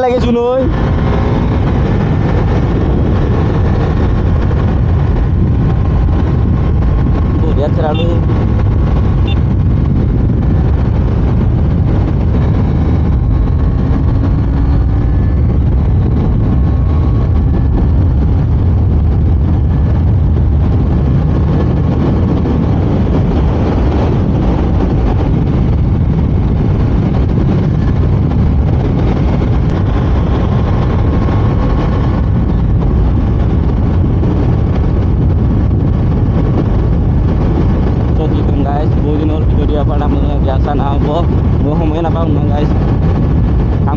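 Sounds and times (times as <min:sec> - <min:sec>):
motorcycle engine at speed: 0:00.0 - 0:43.9
wind rushing on microphone: 0:00.0 - 0:43.9.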